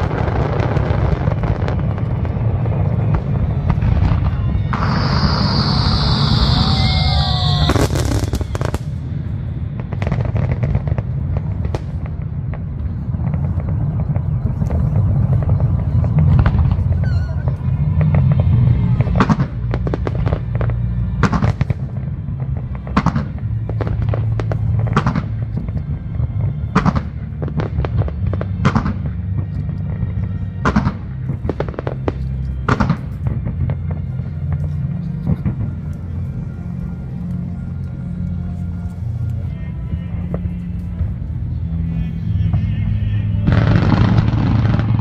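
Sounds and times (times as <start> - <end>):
firework bangs and crackles: 0.0 - 45.0
low rumble of firework bursts: 0.0 - 45.0.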